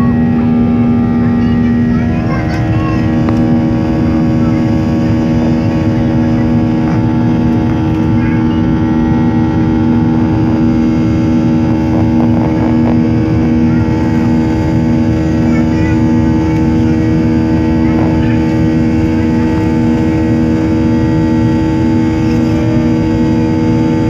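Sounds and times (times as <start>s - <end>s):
jet engines droning in cabin: 0.0s - 24.0s.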